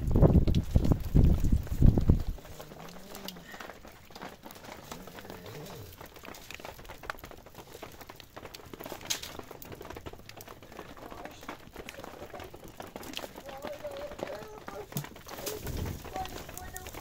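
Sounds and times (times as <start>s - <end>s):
wood fire crackling: 0.0s - 17.0s
sticks shifted in embers: 0.1s - 17.0s.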